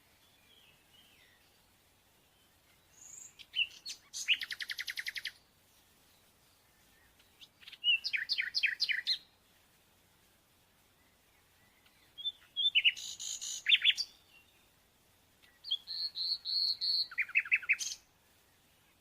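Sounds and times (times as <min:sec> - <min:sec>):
small songbird singing: 0:00.1 - 0:09.6, 0:10.8 - 0:19.0.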